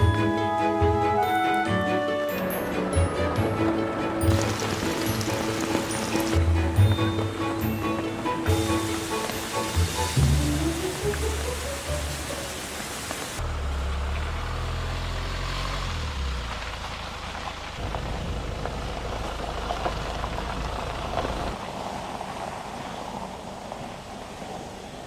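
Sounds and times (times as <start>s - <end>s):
car engine and road rumble: 2.3s - 25.0s
rain pattering: 2.3s - 25.0s.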